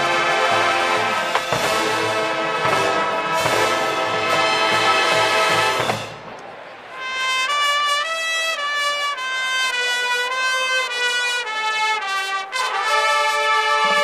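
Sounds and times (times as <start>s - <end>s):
brass band playing long notes: 0.0s - 14.0s.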